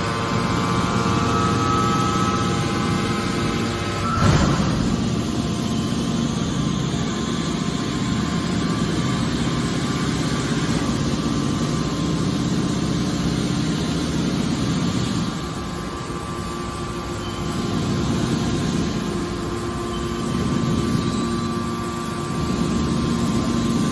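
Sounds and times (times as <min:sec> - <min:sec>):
baler machinery droning: 0:00.0 - 0:23.9.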